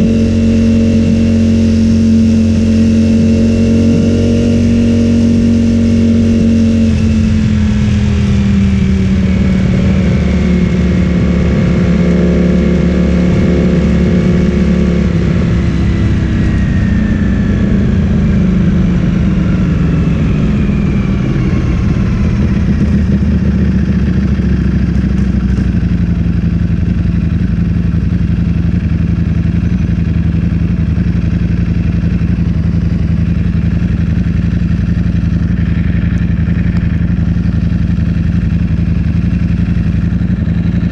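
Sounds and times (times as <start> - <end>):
motorcycle engine decelerating: 0.0 - 40.9.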